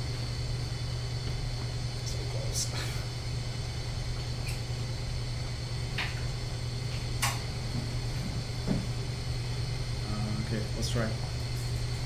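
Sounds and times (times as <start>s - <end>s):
low equipment hum: 0.0s - 12.0s.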